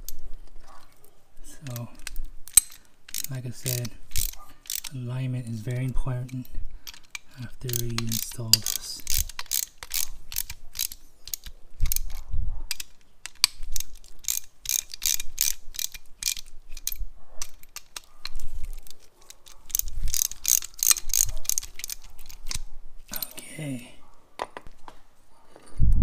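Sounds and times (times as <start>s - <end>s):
hand ratchet clicking: 1.5s - 23.4s.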